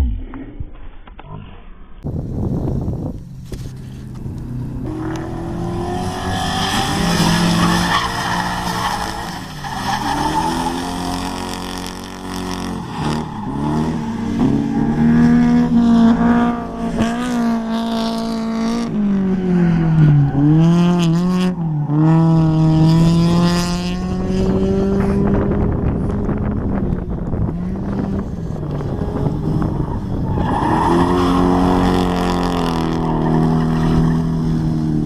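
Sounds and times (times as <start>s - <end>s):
car engine revving: 3.0s - 35.0s.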